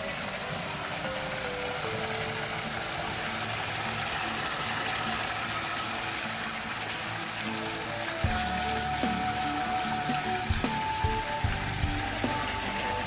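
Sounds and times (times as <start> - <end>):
faint background music: 0.0 - 13.0
water pouring into bucket: 0.0 - 13.0.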